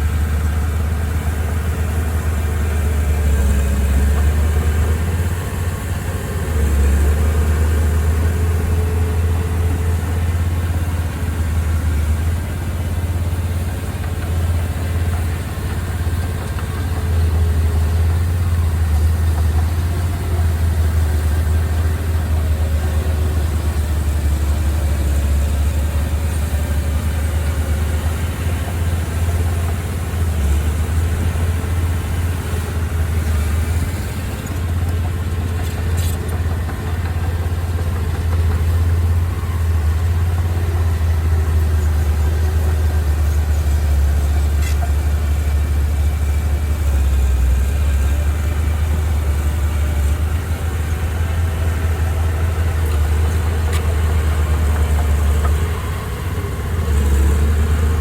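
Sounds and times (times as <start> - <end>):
heavy machine engine humming: 0.0 - 58.0.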